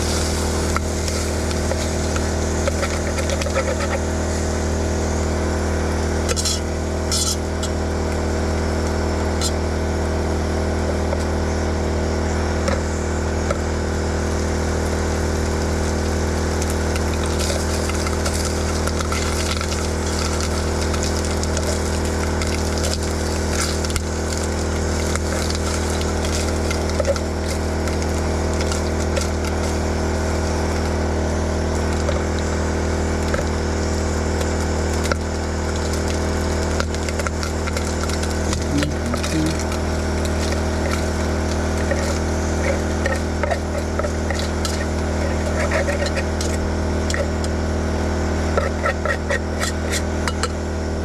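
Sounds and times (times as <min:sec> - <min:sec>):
portable generator engine running: 0:00.0 - 0:51.0.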